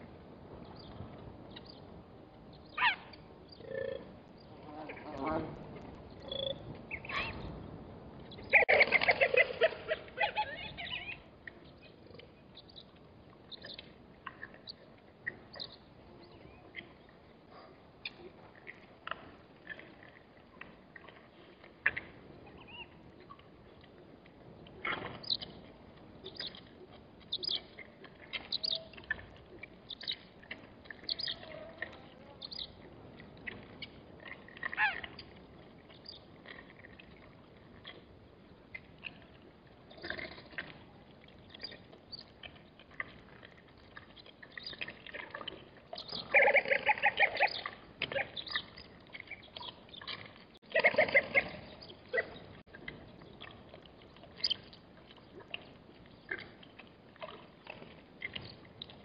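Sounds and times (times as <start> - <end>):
faint outdoor background: 0.0 - 59.0.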